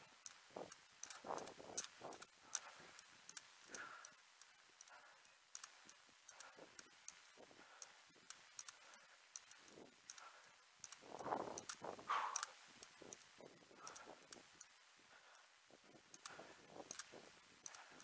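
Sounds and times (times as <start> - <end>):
soft breathing: 0.2 - 18.0.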